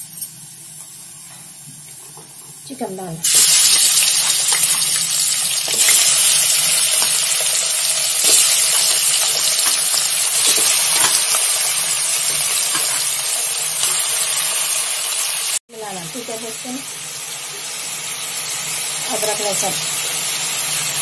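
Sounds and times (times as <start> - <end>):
chicken frying in hot oil: 2.8 - 21.0.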